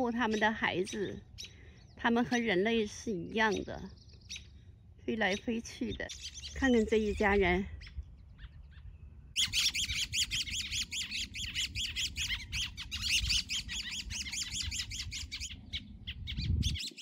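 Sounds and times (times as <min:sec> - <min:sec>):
songbirds alarm chirps: 0:00.0 - 0:17.0.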